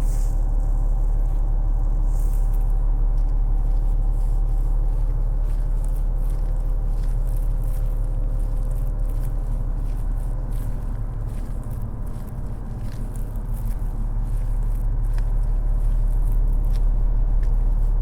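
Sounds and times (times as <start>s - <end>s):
low rumble of city traffic: 0.0s - 18.0s
steady mechanical hum: 0.0s - 18.0s.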